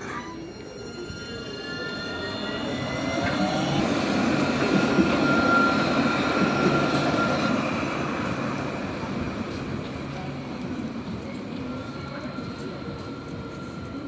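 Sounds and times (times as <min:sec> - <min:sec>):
tram rolling rumble: 0:00.0 - 0:14.0.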